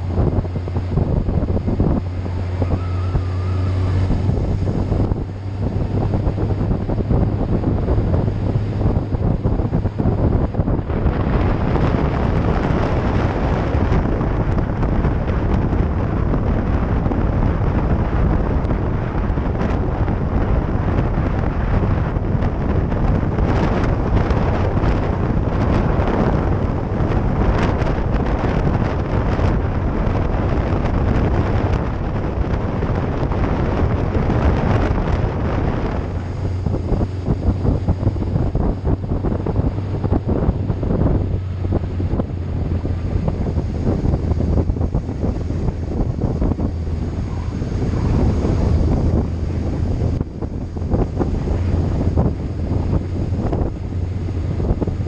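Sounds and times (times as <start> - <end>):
low engine drone: 0.0 - 55.0
wind buffeting microphone: 0.0 - 55.0.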